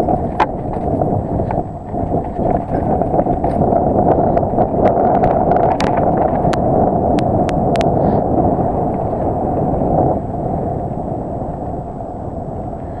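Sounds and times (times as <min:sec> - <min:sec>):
bike tyres rolling on dirt: 0:00.0 - 0:13.0
wind rushing on microphone: 0:00.0 - 0:13.0.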